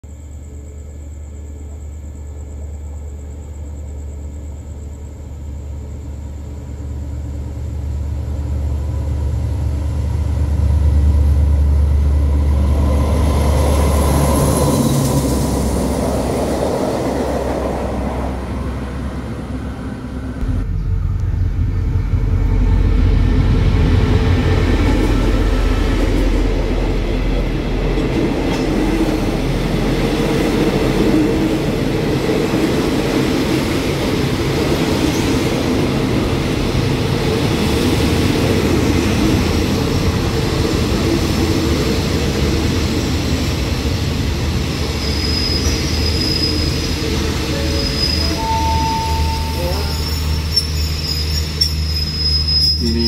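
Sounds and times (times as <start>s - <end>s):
locomotive engine drone: 0.3s - 53.0s
train wheels rumbling on rails: 2.8s - 53.0s.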